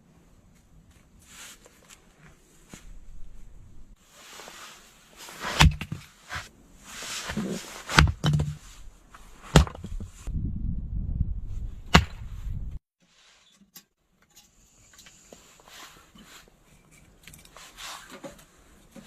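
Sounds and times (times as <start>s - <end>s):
rustling and handling noise: 0.0s - 10.3s, 13.0s - 19.0s.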